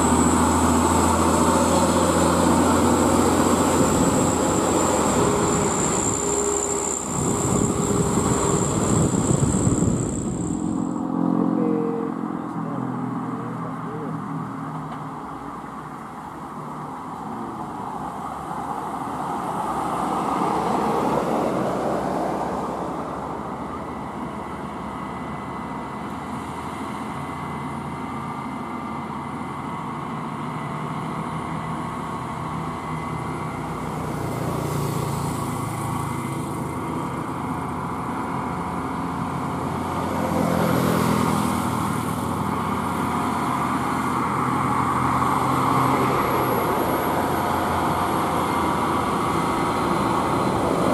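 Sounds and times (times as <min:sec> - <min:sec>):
truck diesel engines labouring uphill: 0:00.0 - 0:50.9.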